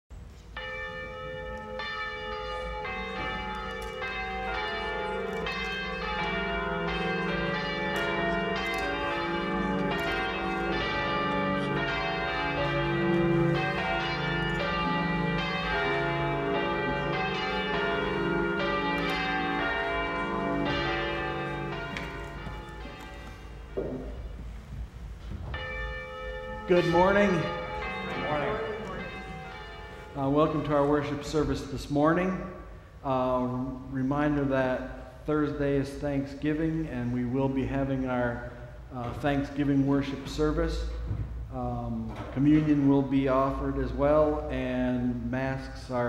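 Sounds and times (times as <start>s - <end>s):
church bells ringing: 0.4s - 24.6s, 25.2s - 46.0s.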